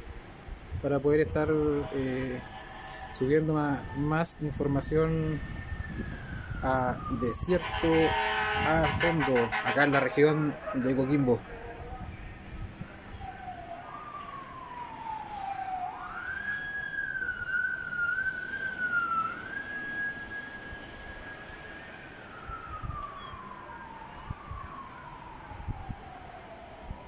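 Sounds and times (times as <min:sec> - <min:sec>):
siren wailing: 0:01.0 - 0:27.0.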